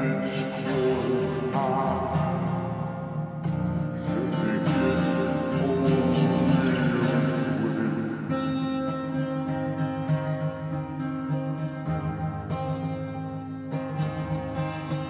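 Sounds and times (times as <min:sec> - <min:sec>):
person singing with echo: 0:00.0 - 0:15.0
strummed acoustic guitar: 0:00.0 - 0:15.0.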